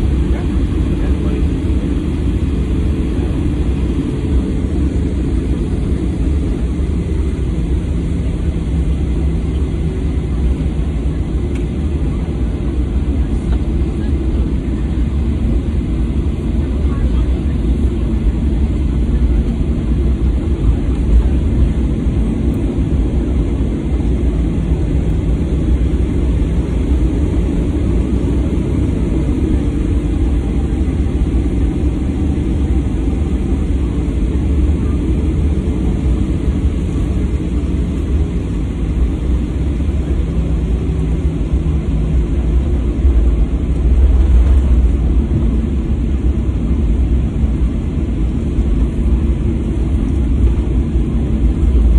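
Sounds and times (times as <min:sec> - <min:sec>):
jet engine low rumble in cabin: 0:00.0 - 0:51.9.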